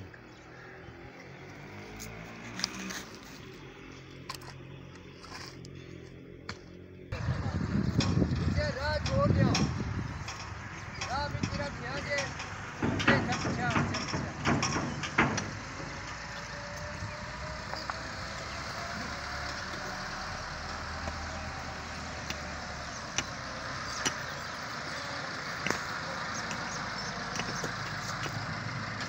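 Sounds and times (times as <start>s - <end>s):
distant motor vehicle running: 0.0s - 29.0s
outdoor background noise: 0.0s - 29.0s.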